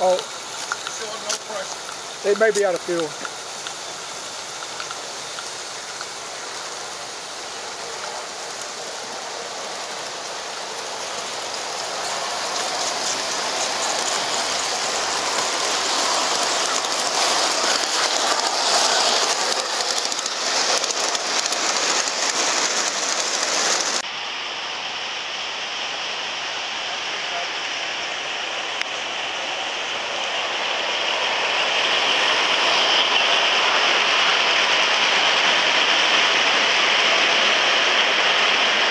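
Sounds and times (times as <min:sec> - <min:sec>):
model trains rushing past: 0:00.0 - 0:38.9.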